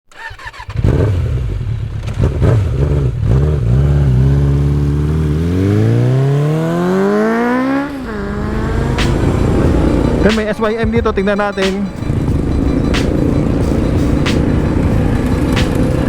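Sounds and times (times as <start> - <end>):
vehicle engine accelerating: 0.5 - 16.0.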